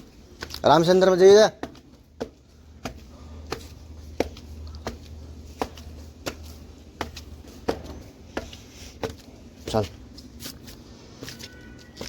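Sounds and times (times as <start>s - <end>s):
footsteps sharp taps: 0.0s - 12.0s.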